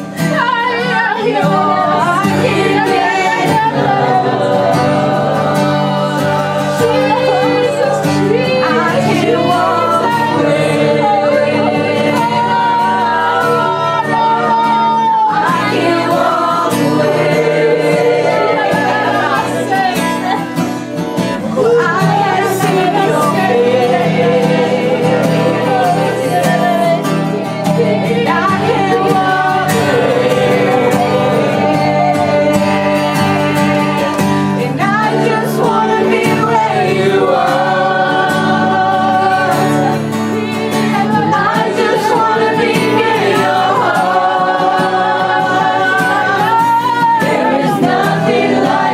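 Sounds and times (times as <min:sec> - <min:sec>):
group of voices singing: 0:00.0 - 0:48.9.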